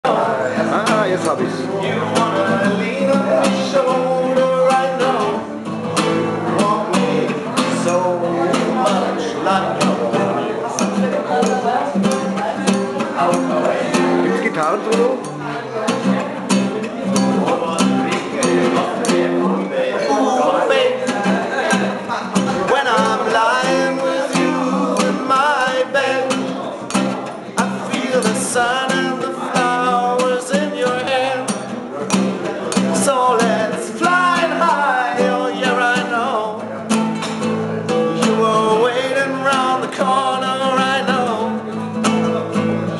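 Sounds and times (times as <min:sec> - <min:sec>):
acoustic guitar playing: 0:00.0 - 0:42.9.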